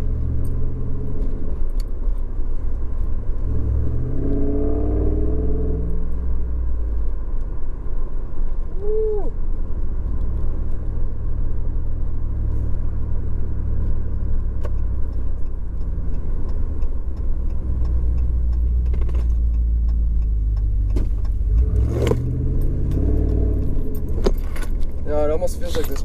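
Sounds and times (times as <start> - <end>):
truck engine rumble while driving: 0.0 - 26.0.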